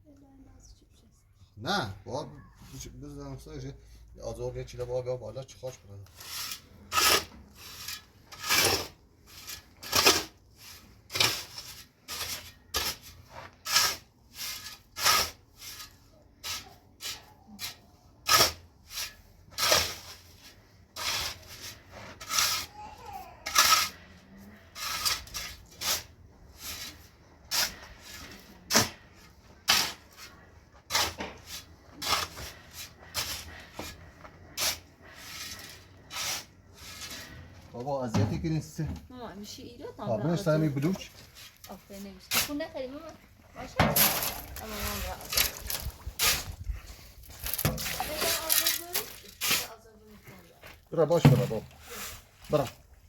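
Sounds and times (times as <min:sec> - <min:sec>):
tool scraping wet cement: 0:05.6 - 0:38.9, 0:40.0 - 0:52.9.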